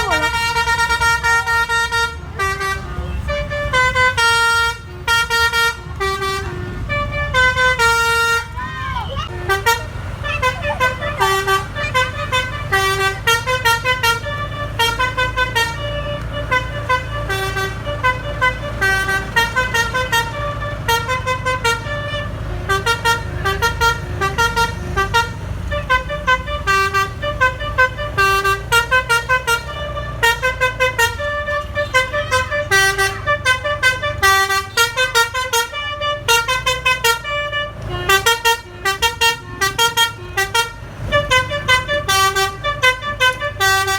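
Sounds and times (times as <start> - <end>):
musical bus horn: 0.0 - 43.9.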